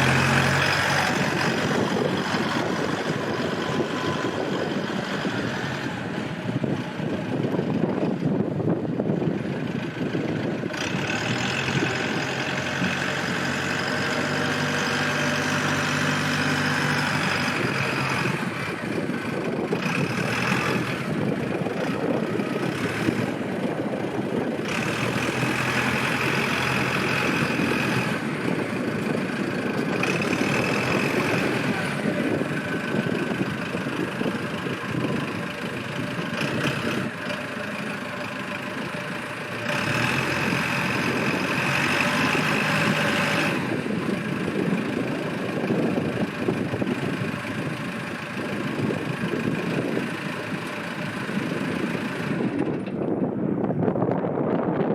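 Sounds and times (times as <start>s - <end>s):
backhoe loader engine running: 0.0s - 54.9s.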